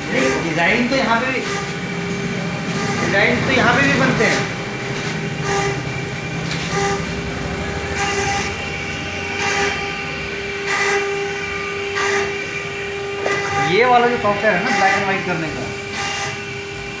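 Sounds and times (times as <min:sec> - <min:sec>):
router spindle high whine: 0:00.0 - 0:17.0.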